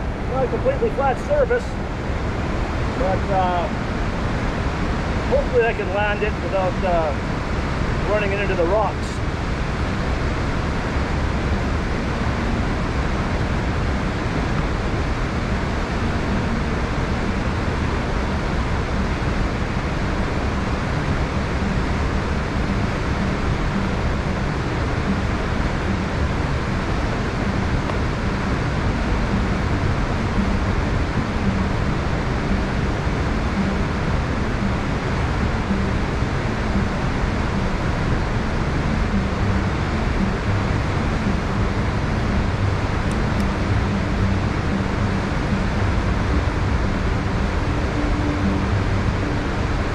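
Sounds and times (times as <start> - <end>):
river and waterfall rushing: 0.0 - 49.9.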